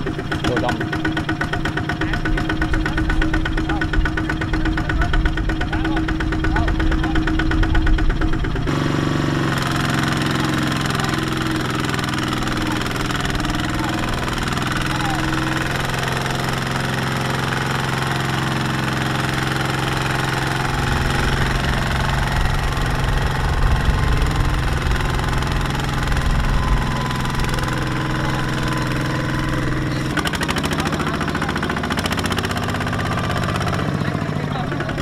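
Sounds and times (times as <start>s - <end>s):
diesel engine chugging under load: 0.0s - 35.0s.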